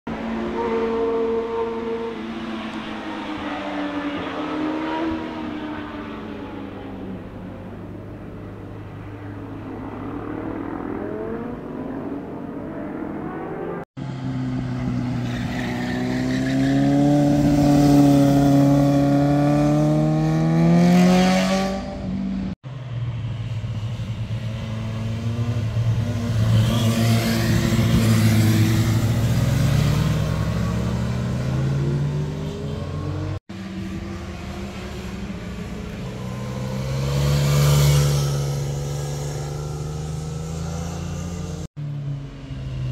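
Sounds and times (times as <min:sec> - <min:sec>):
motorcycles riding past: 0:00.1 - 0:42.9.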